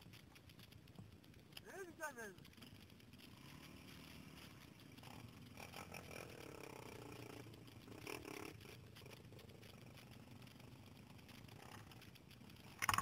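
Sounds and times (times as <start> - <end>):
faint quad bike engine: 0.0 - 13.0.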